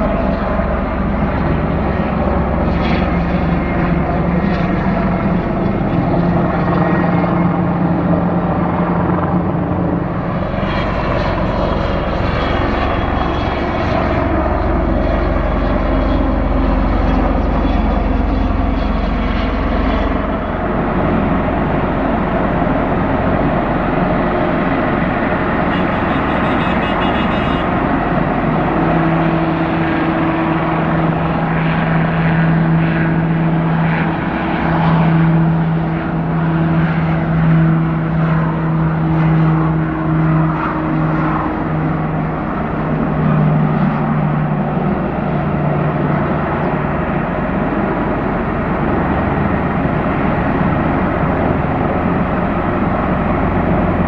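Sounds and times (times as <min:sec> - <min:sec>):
helicopter turbines and rotor: 0:00.0 - 0:54.0
high whine: 0:00.0 - 0:54.0.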